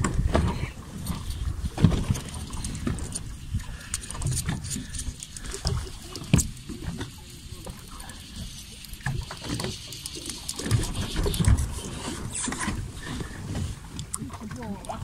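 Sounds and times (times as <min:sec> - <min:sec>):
water around boat: 0:00.0 - 0:15.0.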